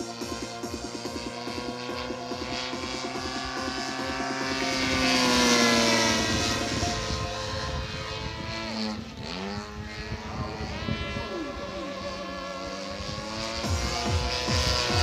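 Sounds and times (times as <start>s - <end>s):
model airplane motor and propeller: 0.0s - 15.0s.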